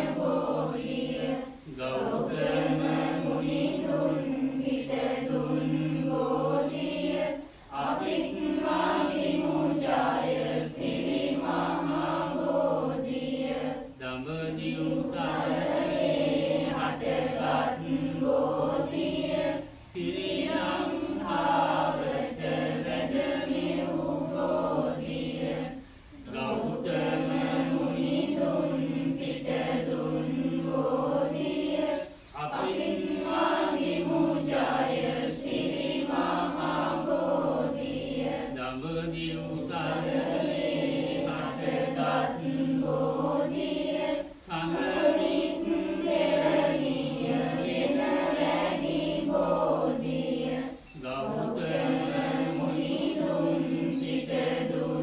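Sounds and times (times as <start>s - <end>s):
group chanting in unison: 0.0s - 55.0s.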